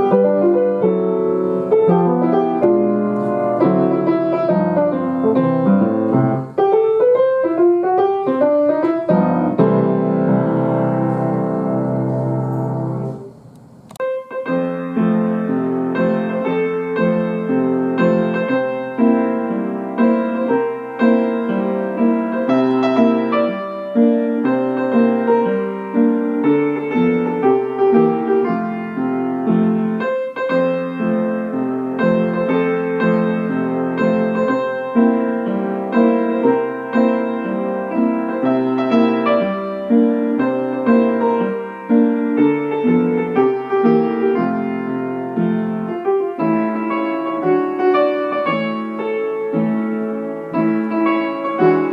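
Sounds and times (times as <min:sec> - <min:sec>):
gentle piano music: 0:00.0 - 0:51.9.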